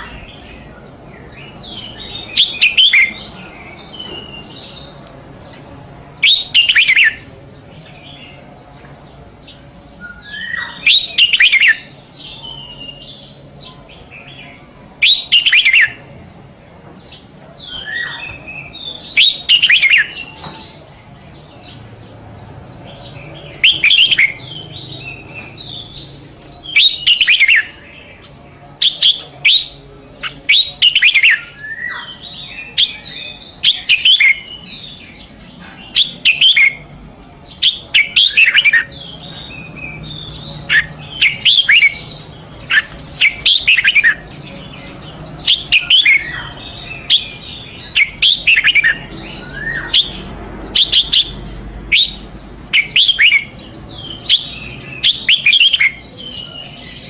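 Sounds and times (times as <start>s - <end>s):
bird song phrases: 0.0s - 57.0s
soft bird chirps: 0.0s - 57.0s.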